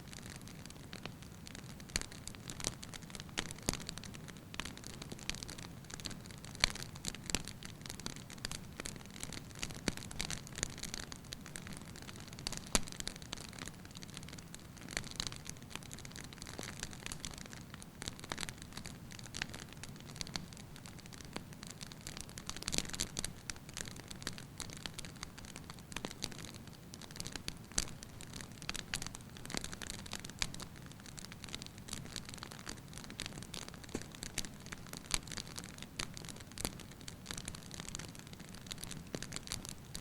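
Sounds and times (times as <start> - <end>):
wood fire crackling and popping: 0.1 - 40.0.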